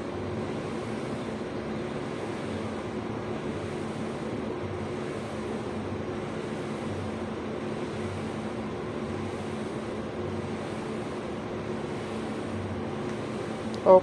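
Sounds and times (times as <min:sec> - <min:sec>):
air conditioner running: 0:00.0 - 0:14.0.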